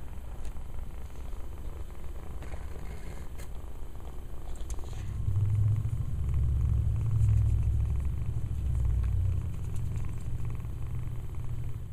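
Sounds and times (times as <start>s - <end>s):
kitten purring: 0.0s - 11.9s.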